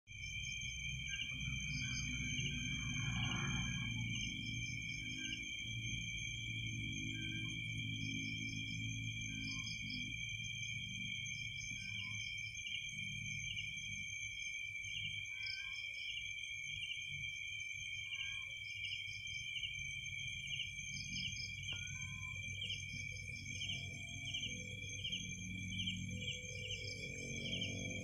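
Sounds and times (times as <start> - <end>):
crickets trilling: 0.2 - 28.0.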